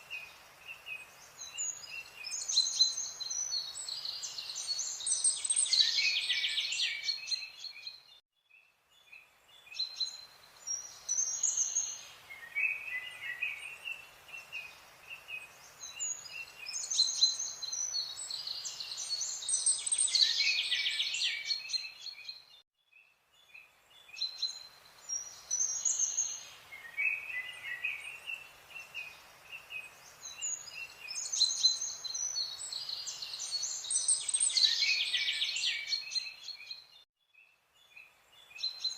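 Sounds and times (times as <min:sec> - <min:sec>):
birds chirping and trilling: 0:00.0 - 0:08.2, 0:08.9 - 0:38.9.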